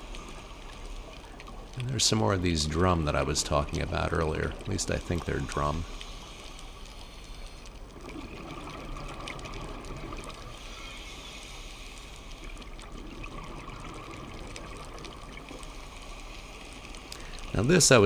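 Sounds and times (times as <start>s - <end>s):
faint clicks: 0.0s - 18.0s.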